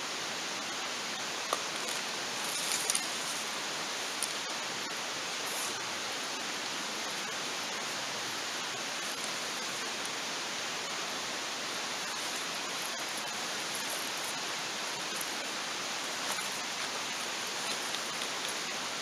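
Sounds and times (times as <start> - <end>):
campfire crackles: 0.4 - 19.0.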